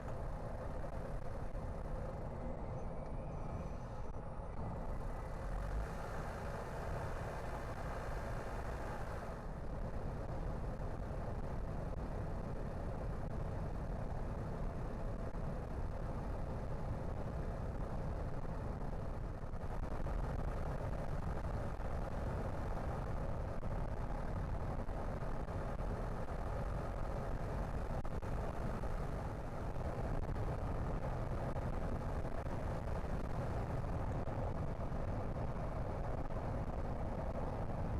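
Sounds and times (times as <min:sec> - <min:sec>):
car engine and road rumble: 0:00.0 - 0:37.9.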